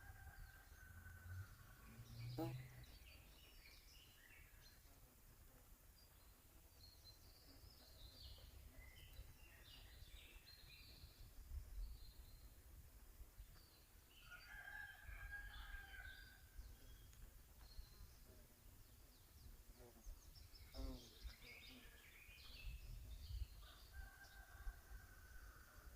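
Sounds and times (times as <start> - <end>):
songbirds chirping: 0.0 - 25.9.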